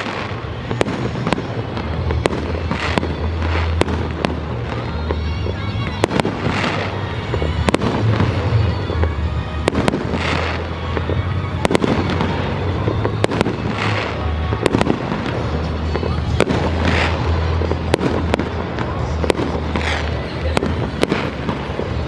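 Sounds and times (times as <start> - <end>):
background music: 0.0 - 22.0
fireworks bursting with sharp bangs: 0.0 - 22.0
fireworks crackling: 0.0 - 22.0.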